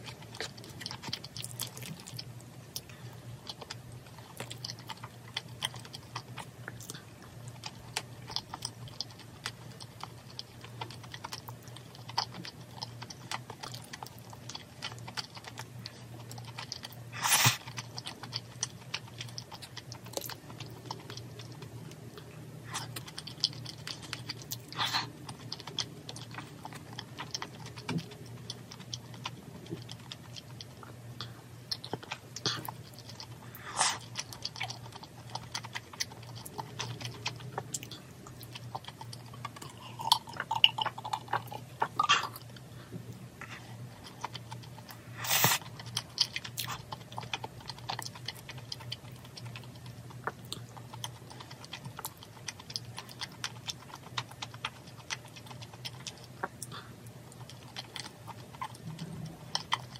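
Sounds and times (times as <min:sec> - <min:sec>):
low steady hum: 0:00.0 - 0:59.9
person chewing: 0:00.0 - 0:59.9.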